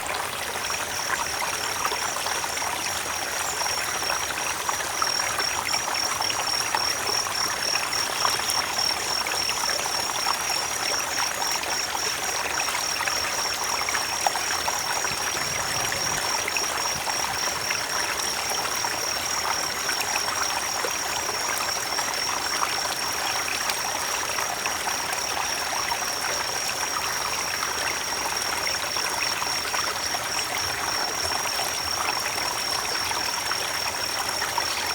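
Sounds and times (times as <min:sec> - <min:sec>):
creek water running: 0:00.0 - 0:34.9.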